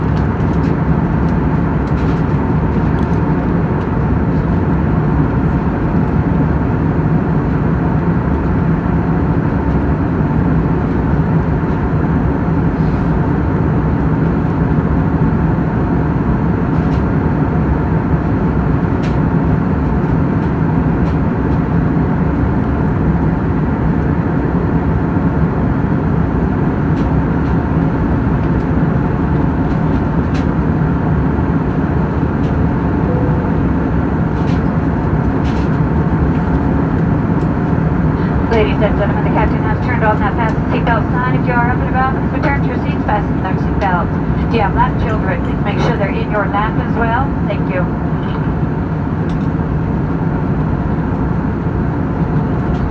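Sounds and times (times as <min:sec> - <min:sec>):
airliner cabin engine rush: 0:00.0 - 0:52.9.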